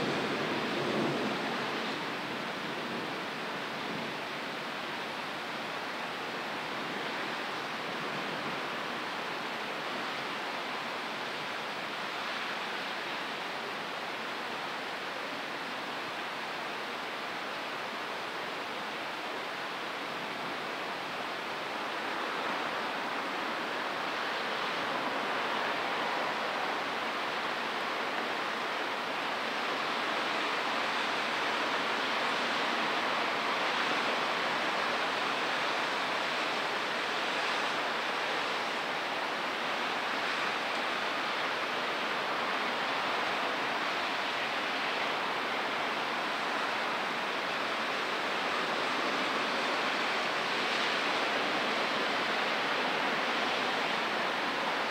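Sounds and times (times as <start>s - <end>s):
heavy rain hiss: 0.0s - 54.9s.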